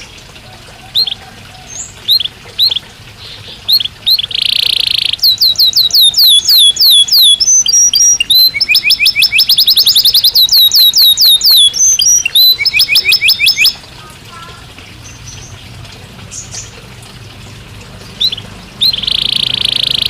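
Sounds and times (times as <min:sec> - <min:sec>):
canary singing: 0:00.0 - 0:15.6, 0:18.0 - 0:20.0.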